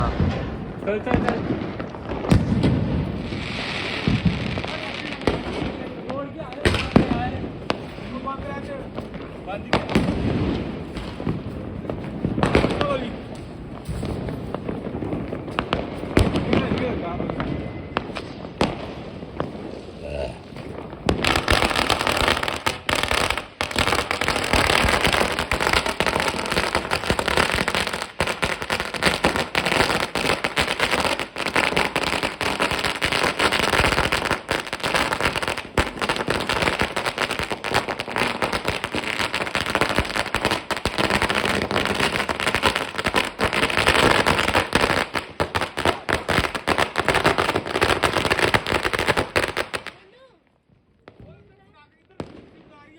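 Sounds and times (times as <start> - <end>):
firecrackers banging and crackling: 0.0 - 50.2.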